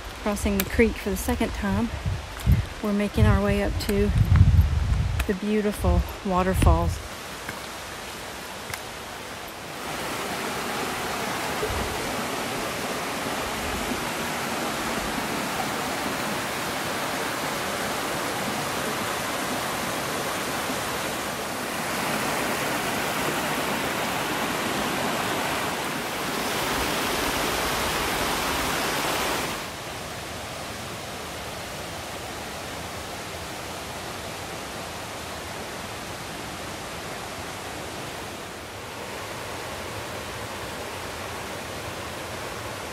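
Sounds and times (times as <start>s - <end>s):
water rushing over rocks: 5.1s - 42.9s.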